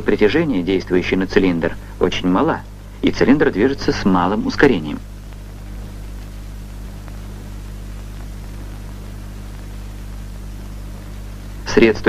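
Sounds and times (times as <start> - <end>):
film soundtrack hiss: 0.0 - 12.0
low mains hum: 0.0 - 12.0.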